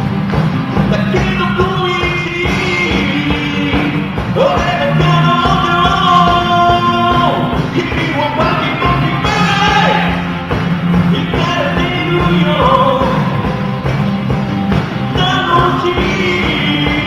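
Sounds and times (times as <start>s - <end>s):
rock and roll band playing: 0.0s - 17.0s
person singing: 0.9s - 17.0s.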